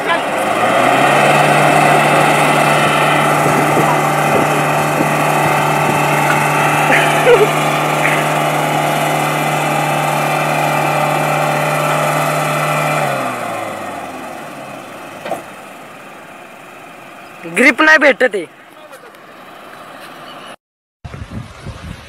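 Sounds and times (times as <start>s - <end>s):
suv engines revving high: 0.0s - 20.6s.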